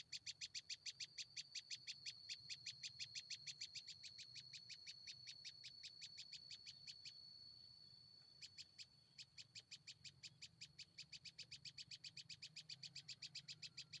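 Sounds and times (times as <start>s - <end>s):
small bird rapid high chirps: 0.0s - 14.0s.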